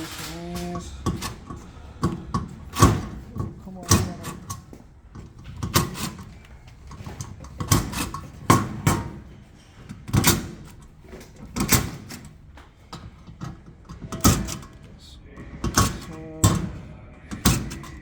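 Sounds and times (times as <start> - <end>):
sheet metal parts clanking: 0.0 - 18.0.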